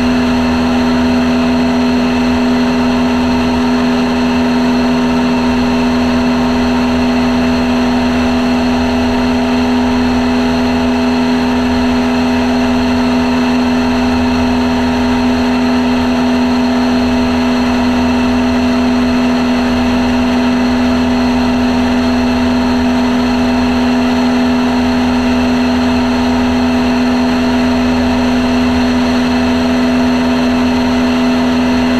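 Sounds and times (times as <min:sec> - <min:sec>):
light aircraft engine droning: 0:00.0 - 0:31.9.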